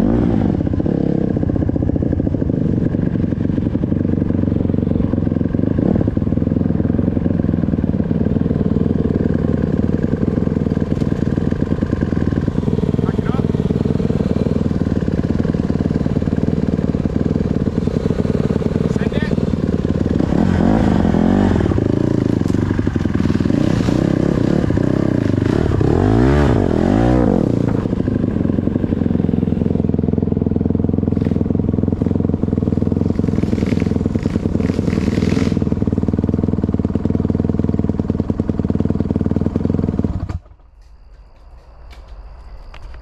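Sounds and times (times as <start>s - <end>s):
dirt bike engine revving: 0.0s - 40.6s.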